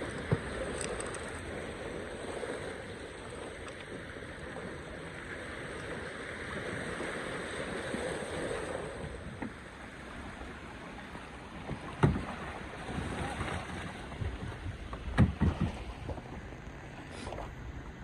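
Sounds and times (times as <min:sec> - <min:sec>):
sea water lapping: 0:00.0 - 0:18.0.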